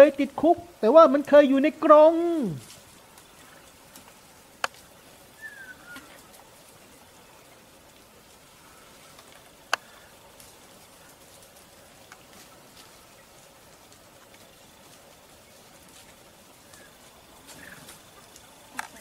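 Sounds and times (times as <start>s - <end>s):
faint forest background: 0.0s - 19.0s.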